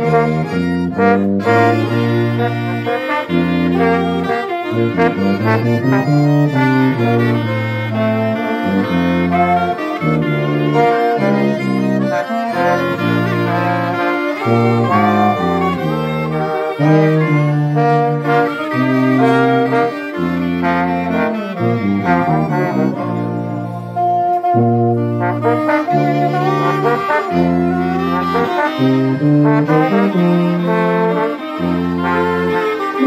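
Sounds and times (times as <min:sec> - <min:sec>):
brass and woodwind ensemble hymn: 0:00.0 - 0:33.0.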